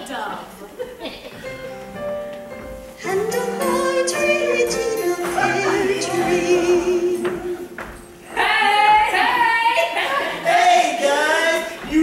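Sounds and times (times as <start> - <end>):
stage music with singing: 1.4 - 12.0.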